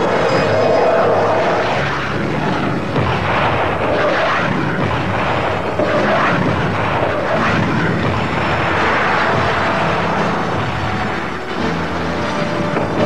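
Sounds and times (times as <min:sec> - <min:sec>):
jet roar: 0:00.0 - 0:13.0.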